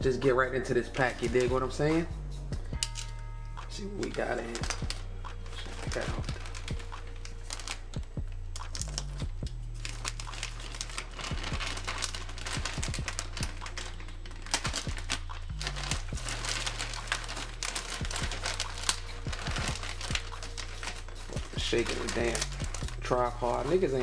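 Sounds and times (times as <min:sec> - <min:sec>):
plastic bag crinkling: 0:00.0 - 0:02.1, 0:02.8 - 0:24.0
background music bass line: 0:00.0 - 0:24.0.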